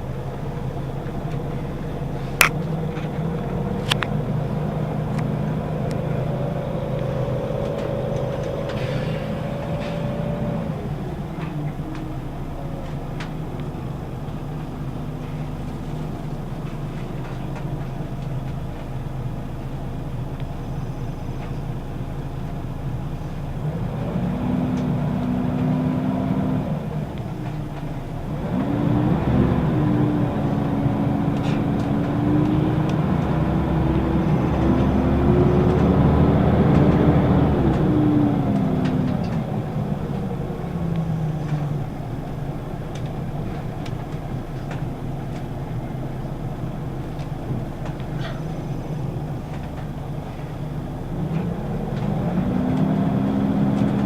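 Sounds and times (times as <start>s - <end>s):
bus engine from inside cabin: 0.0s - 54.0s.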